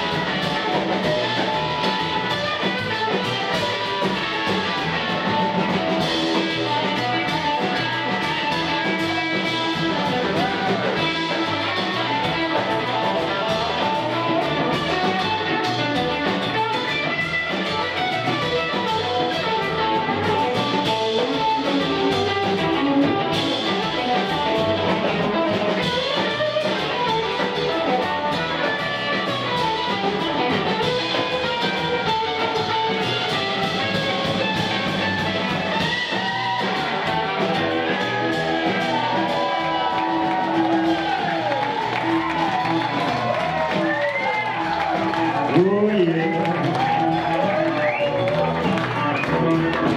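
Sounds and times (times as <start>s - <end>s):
drum kit: 0.0s - 49.9s
electric guitar: 0.0s - 49.9s
upright double bass: 0.0s - 49.9s.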